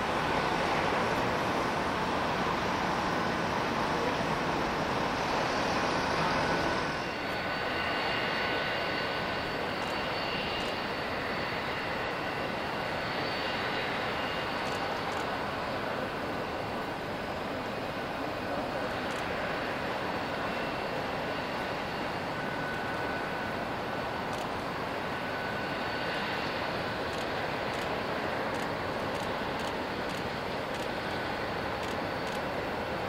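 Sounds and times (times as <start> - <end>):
high engine whine: 0.0 - 33.0
jet engines running: 0.0 - 33.0.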